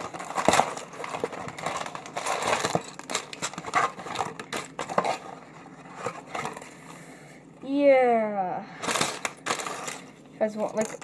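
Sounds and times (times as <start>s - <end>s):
cardboard and plastic packaging rustling: 0.0s - 7.2s, 8.8s - 11.0s.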